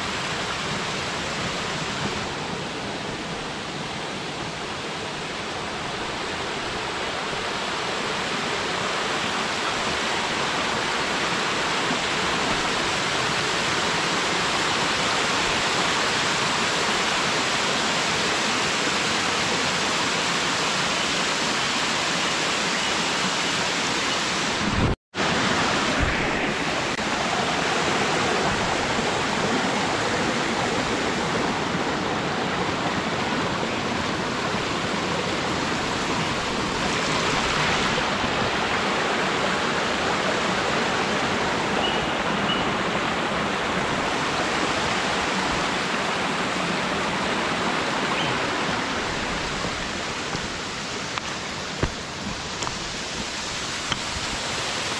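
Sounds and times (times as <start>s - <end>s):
waterfall rushing over rocks: 0.0s - 54.9s.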